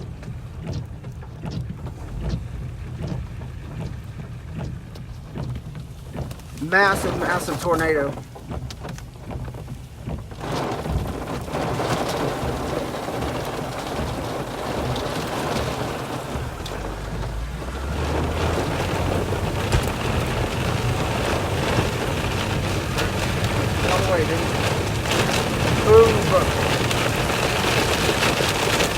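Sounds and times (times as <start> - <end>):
low rumble: 0.0 - 8.8, 10.4 - 28.9
heavy rain on car body: 0.0 - 28.9.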